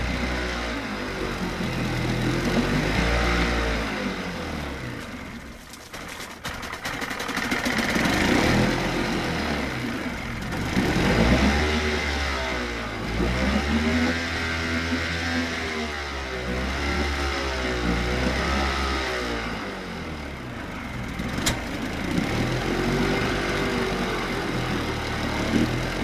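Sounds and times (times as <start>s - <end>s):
outboard engine revving: 0.0s - 26.0s.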